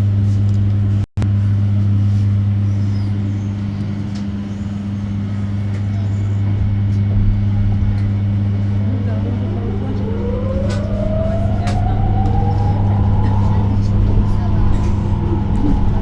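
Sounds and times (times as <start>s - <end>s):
bus cabin low hum: 0.0s - 16.0s.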